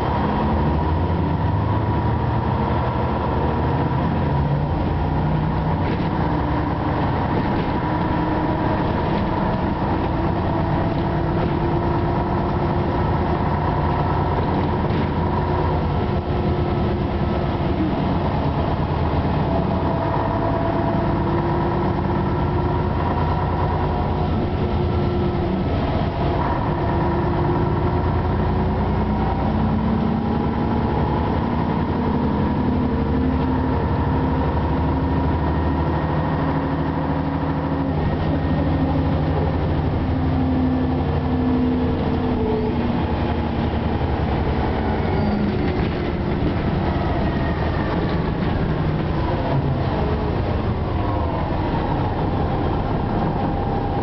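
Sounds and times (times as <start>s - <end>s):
bus diesel engine running: 0.0s - 54.0s
road rumble: 0.0s - 54.0s.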